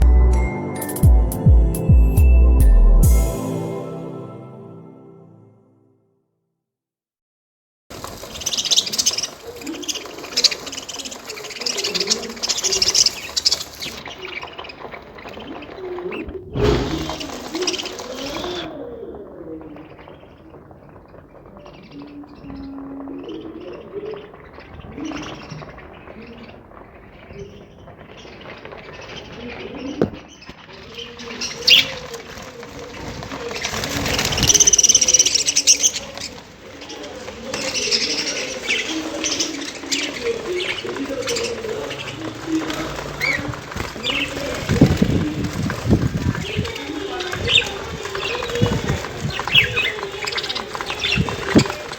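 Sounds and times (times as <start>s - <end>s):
birds cooing: 8.2s - 51.9s.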